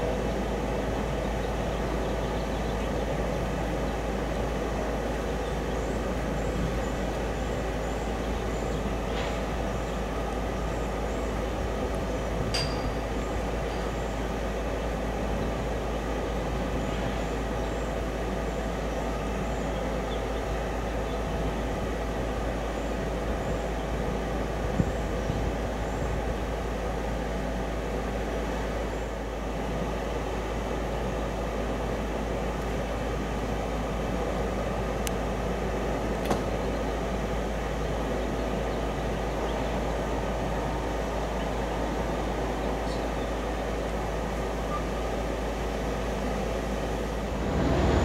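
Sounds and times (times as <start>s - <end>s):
steady mechanical drone: 0.0s - 48.0s.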